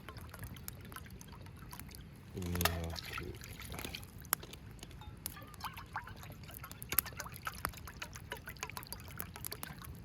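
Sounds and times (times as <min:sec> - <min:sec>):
thick soup bubbling and popping: 0:00.0 - 0:10.0.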